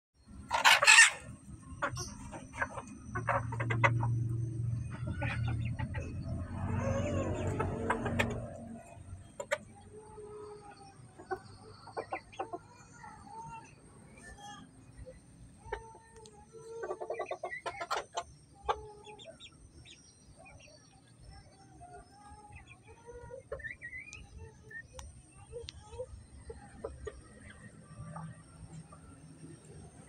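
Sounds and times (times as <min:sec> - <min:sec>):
chickens clucking softly: 0:00.3 - 0:30.0.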